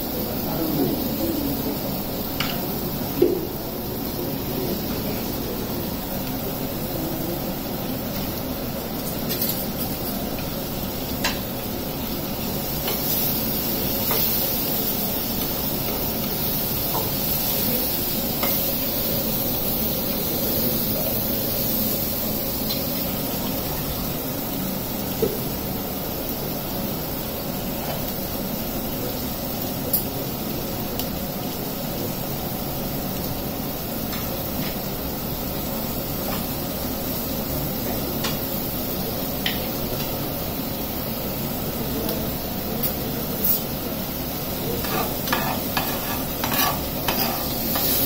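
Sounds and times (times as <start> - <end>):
food sizzling in pans: 0.0 - 48.0.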